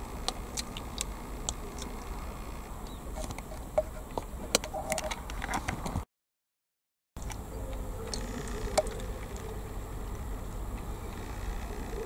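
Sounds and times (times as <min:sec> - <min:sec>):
low outdoor rumble: 0:00.0 - 0:06.0, 0:07.2 - 0:12.0.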